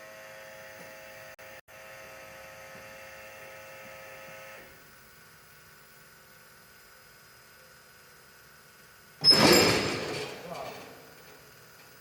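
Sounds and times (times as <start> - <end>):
electrical machine hum: 0.0 - 12.0.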